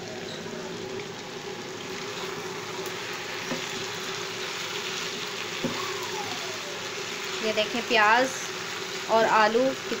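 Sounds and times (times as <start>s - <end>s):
potatoes sizzling in a pan: 0.0s - 10.0s.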